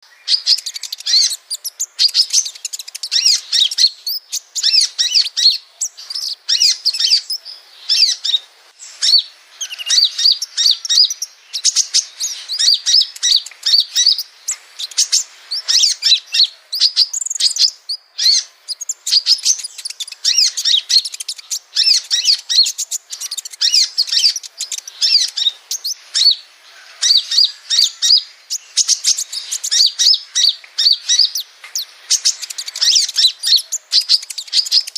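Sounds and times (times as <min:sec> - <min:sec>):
bird chirping and trilling: 0:00.0 - 0:34.9.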